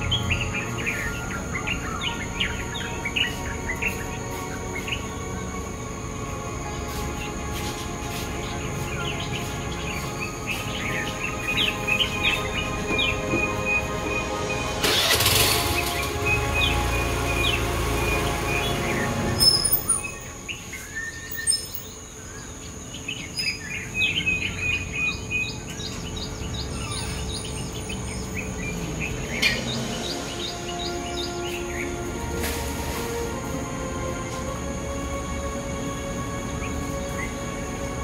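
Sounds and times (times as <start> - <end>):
background music: 0.0 - 38.0
birds chirping: 0.0 - 38.0.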